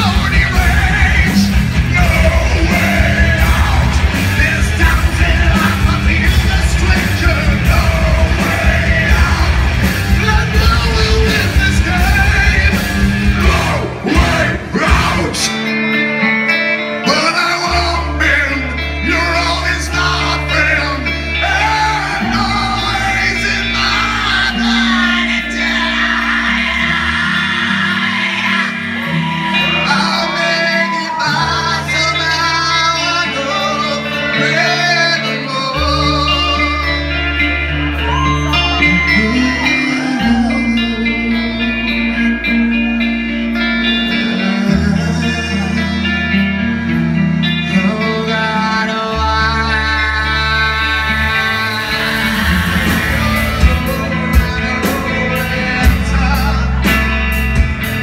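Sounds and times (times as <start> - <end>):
bass guitar: 0.0 - 58.0
drums: 0.0 - 58.0
electric guitars: 0.0 - 58.0
lead singer: 0.0 - 58.0.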